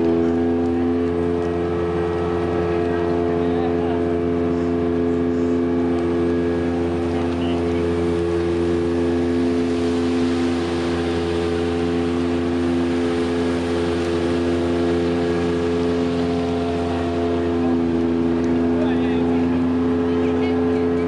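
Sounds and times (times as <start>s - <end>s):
steady machine drone: 0.0s - 21.0s.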